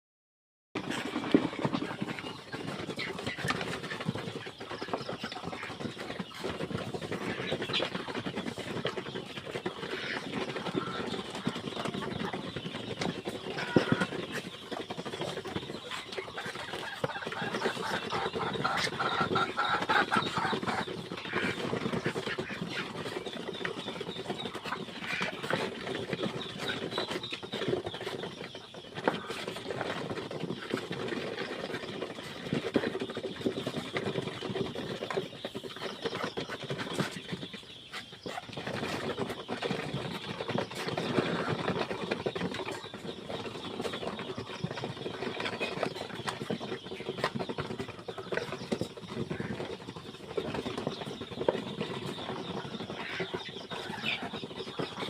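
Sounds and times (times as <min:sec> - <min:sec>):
chickens and ducks calling: 0:00.8 - 0:55.0.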